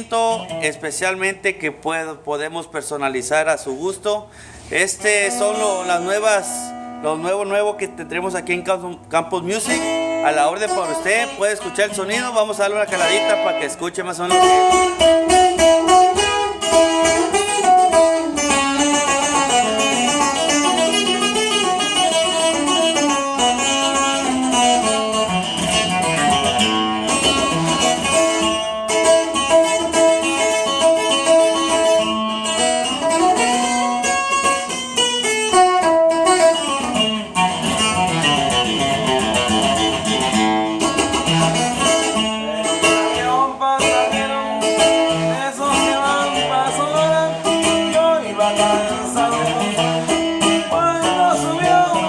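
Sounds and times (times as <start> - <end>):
small guitar playing runs and chords: 0.0 - 1.0, 5.0 - 52.0.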